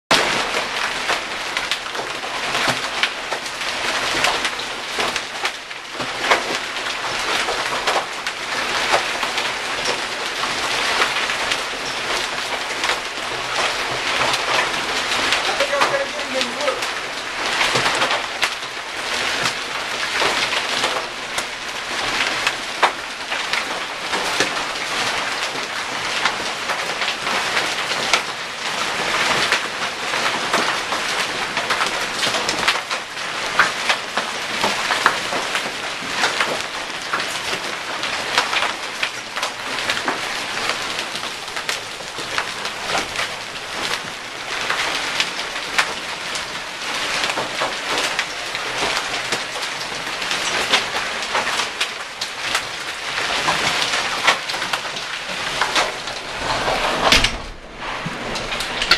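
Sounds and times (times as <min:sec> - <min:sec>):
hailstones clicking and tapping: 0:00.1 - 0:58.9
heavy rain hissing: 0:02.4 - 0:58.9.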